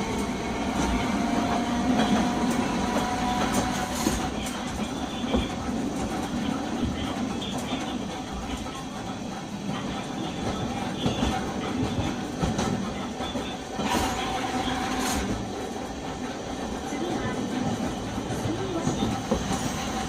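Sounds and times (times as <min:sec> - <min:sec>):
tram motor and wheels rumbling: 0:00.0 - 0:20.0.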